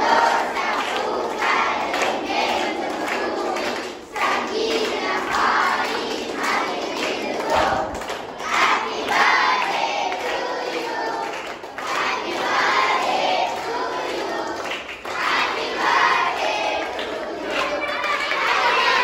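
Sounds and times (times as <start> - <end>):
boys singing in unison: 0.0 - 19.0
hand clapping: 0.0 - 19.0.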